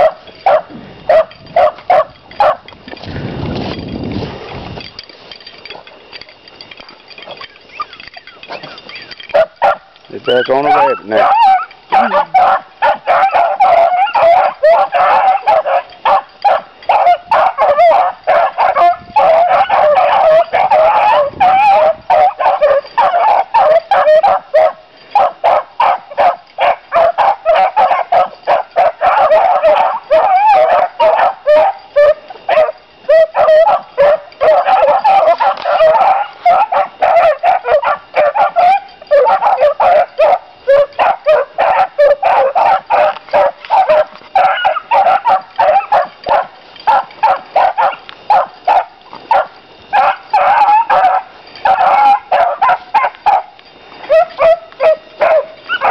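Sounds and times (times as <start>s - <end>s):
beagles baying: 0.0s - 2.7s, 4.9s - 55.9s.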